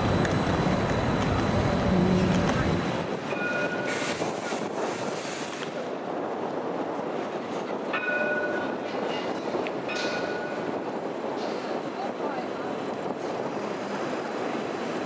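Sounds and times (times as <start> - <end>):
traffic noise: 0.0 - 15.0
tram running on street track: 0.0 - 15.0.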